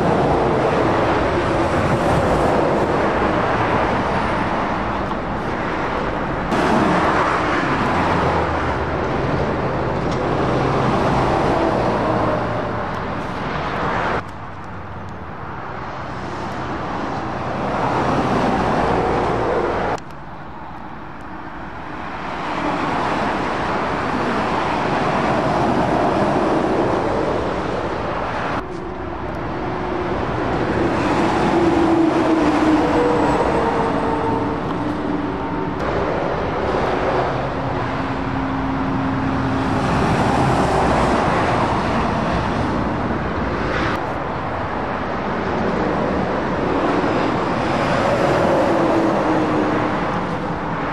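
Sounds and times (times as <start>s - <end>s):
diesel lorry engines droning: 0.0s - 50.9s
tyre and road noise: 0.0s - 50.9s.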